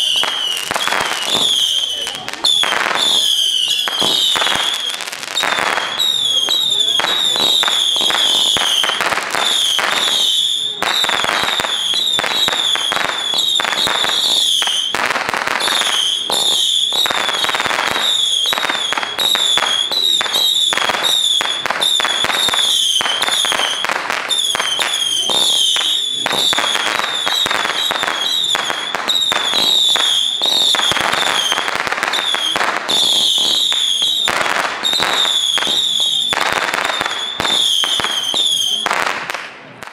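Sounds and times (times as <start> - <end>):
shrill fireworks whistles: 0.0 - 39.5
fireworks popping: 0.0 - 39.9.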